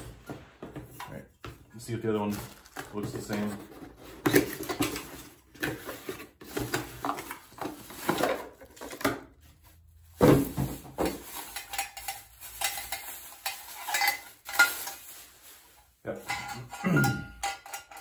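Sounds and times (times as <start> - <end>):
packaging rustling and scraping: 0.0 - 16.7.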